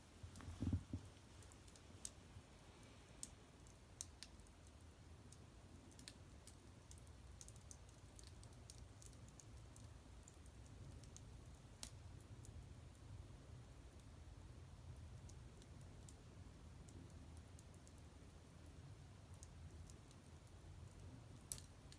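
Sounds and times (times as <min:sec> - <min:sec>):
small wood fire crackling: 0:00.0 - 0:21.9.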